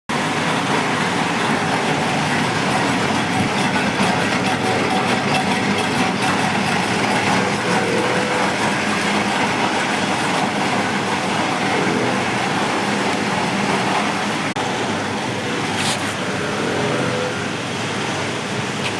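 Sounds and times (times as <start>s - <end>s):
lathe cutting: 0.2s - 18.8s.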